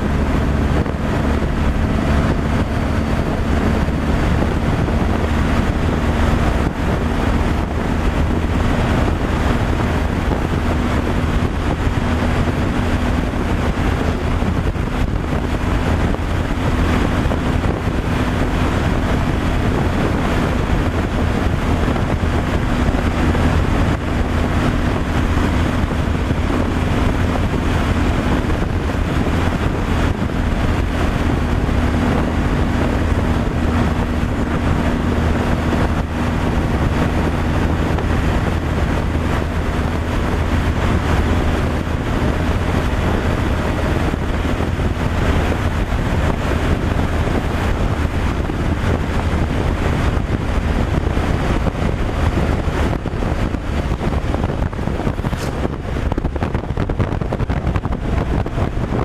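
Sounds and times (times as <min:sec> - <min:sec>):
road rumble: 0:00.0 - 0:59.0
truck engine drone: 0:00.0 - 0:59.0
wind noise on microphone: 0:00.0 - 0:59.0.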